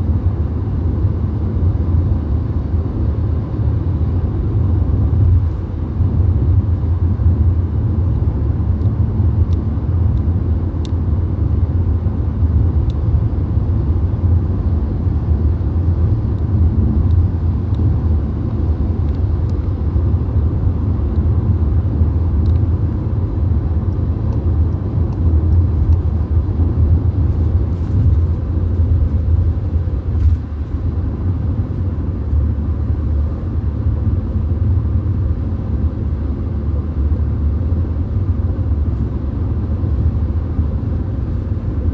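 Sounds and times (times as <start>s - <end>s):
car road and engine rumble: 0.0s - 41.9s.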